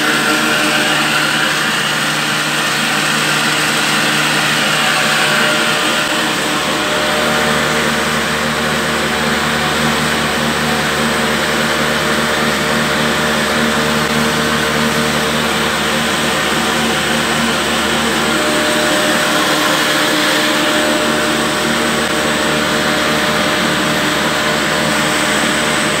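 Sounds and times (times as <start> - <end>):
flour mill and electric motor humming: 0.0 - 26.0.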